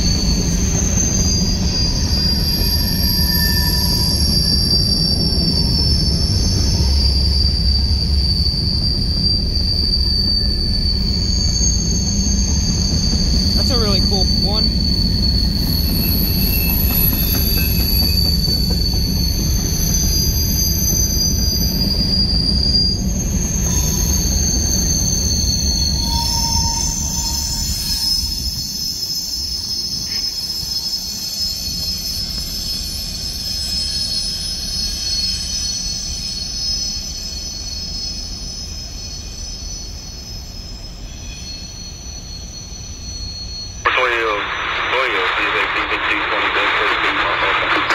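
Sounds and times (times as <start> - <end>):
train cars rumbling: 0.0 - 43.6
high-pitched wheel squeal: 0.0 - 47.9.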